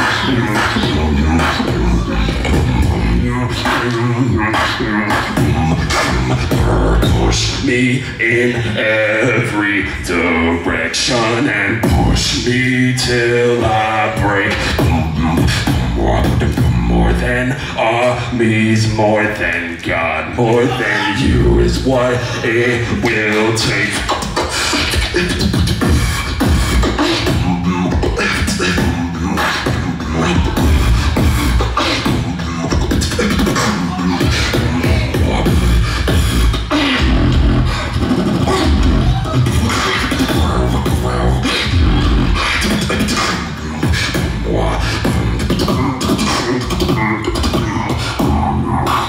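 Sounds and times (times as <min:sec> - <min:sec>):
person beatboxing into a microphone: 0:00.0 - 0:49.0.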